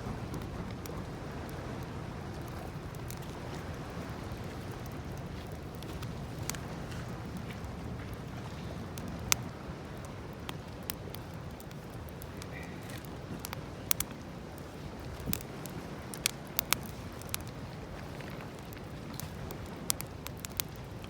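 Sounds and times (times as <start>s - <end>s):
low rush of burning fire: 0.0s - 21.0s
campfire pops and snaps: 2.3s - 21.0s.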